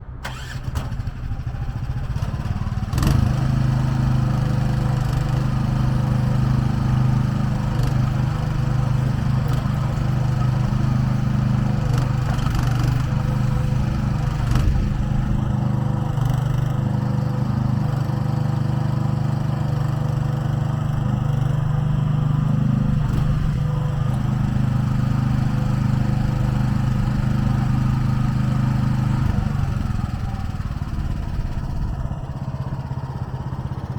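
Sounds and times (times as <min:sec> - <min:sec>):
small excavator engine running: 0:00.0 - 0:33.9.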